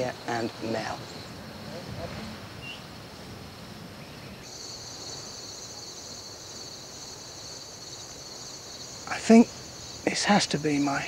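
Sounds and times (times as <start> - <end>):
crickets trilling: 0.0 - 11.0
higher-pitched crickets chorus: 0.0 - 11.0.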